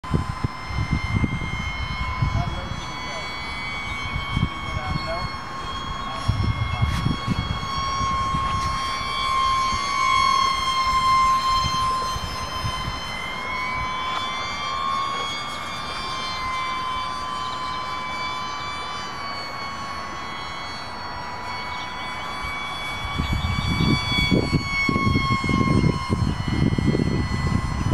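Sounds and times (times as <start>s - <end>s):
model airplane motor whine: 0.0s - 27.9s.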